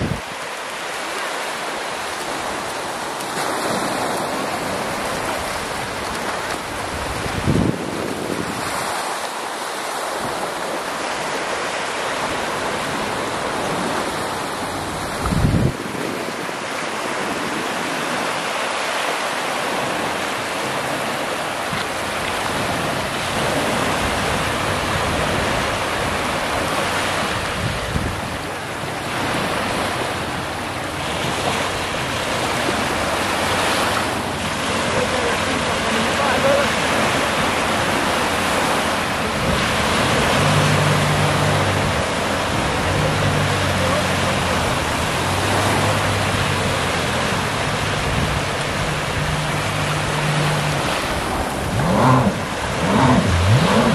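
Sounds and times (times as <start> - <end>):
wind buffeting microphone: 0.0 - 0.4, 2.3 - 9.1, 12.5 - 18.5, 19.7 - 53.9
waves breaking on beach: 0.0 - 53.9.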